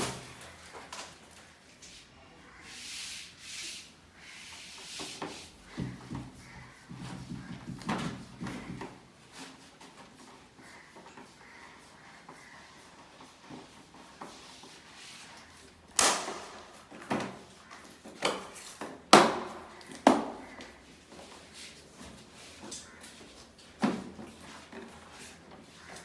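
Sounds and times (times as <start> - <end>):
faint background noise: 0.0 - 26.0.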